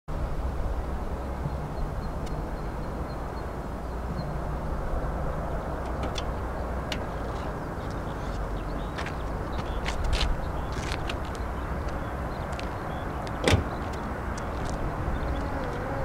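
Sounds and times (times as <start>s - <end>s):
distant jet engines rumbling: 0.3s - 16.0s.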